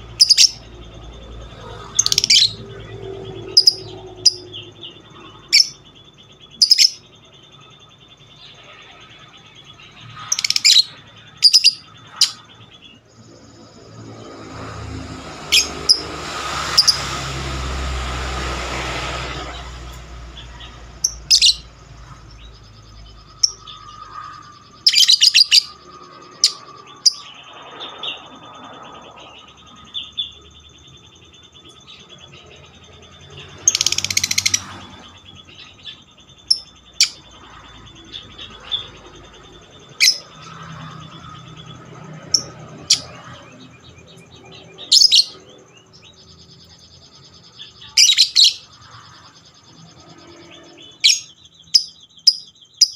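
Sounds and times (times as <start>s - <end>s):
lovebird chattering trill: 0.0s - 13.6s, 19.2s - 27.9s, 29.0s - 52.9s.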